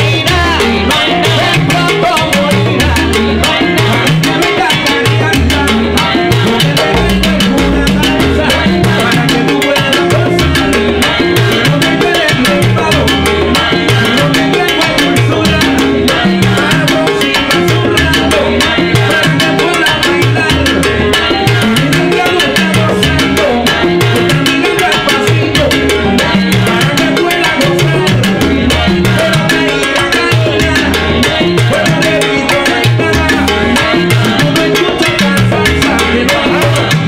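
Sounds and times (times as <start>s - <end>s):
bass: 0.0s - 37.0s
bongos timbales and congas: 0.0s - 37.0s
salsa band playing: 0.0s - 37.0s.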